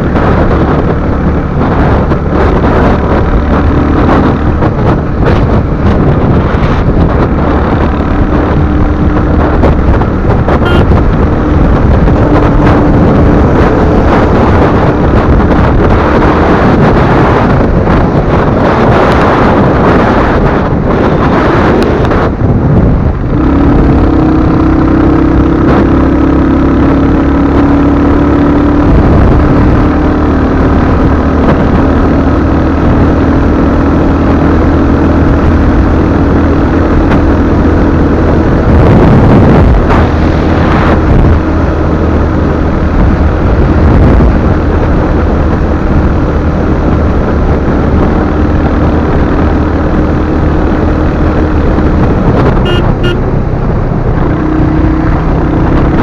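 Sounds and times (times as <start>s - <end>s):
motorcycle engine cruising: 0.0s - 56.0s
wind rush on microphone: 0.0s - 56.0s.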